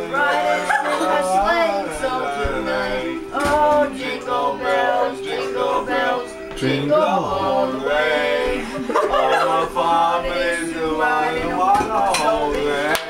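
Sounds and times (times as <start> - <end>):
man singing: 0.0 - 13.0
music: 0.0 - 13.0.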